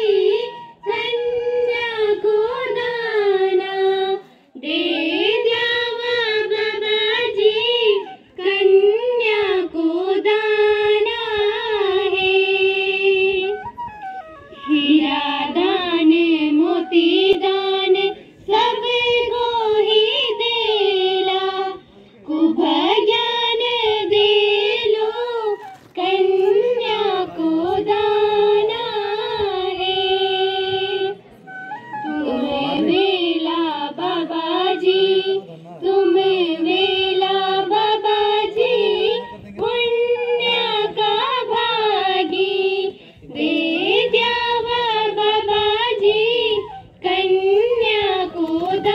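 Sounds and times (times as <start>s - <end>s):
bamboo flute: 0.0s - 6.6s, 7.2s - 9.4s, 10.2s - 21.8s, 22.5s - 35.5s, 36.2s - 48.9s
girls singing folk song: 0.0s - 13.5s, 14.7s - 31.2s, 32.0s - 48.9s.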